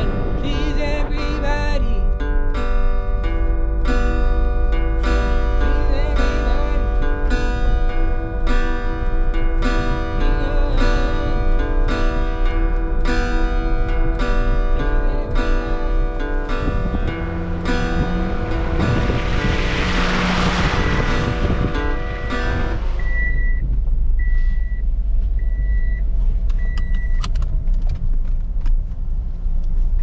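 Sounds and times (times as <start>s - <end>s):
acoustic guitar strumming: 0.0s - 26.4s.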